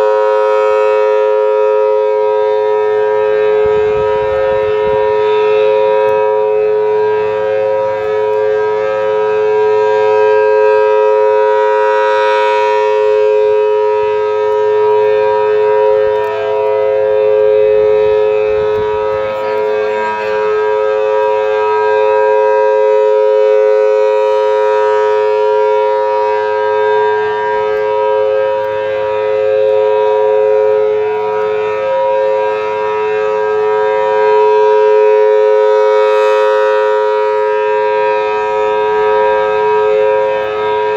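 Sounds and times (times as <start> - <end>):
tornado siren steady two tones: 0.0 - 40.9.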